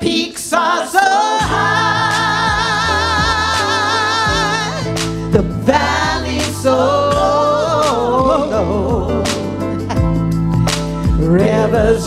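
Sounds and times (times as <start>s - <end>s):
backing singers harmonizing: 0.0s - 9.6s, 11.2s - 12.0s
percussion hits: 1.4s - 11.4s
bass line: 1.4s - 12.0s.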